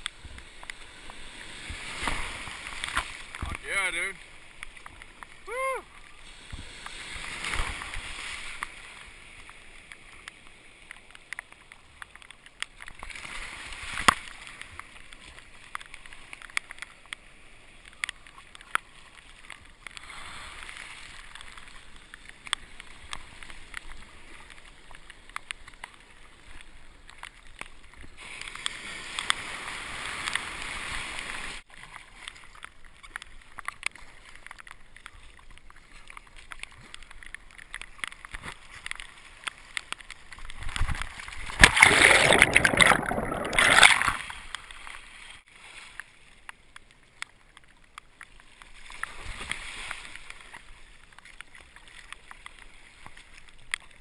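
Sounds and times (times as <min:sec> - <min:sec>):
paddle splashes and clicks: 0:00.0 - 0:54.0
water rushing around kayak: 0:00.0 - 0:54.0.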